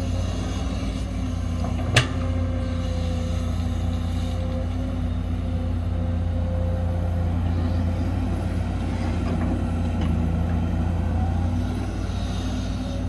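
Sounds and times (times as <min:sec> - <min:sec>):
heavy diesel engine droning: 0:00.0 - 0:13.0.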